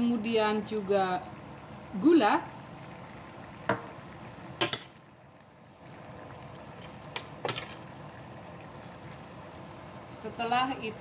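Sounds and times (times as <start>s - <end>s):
curry bubbling: 0.0s - 11.0s.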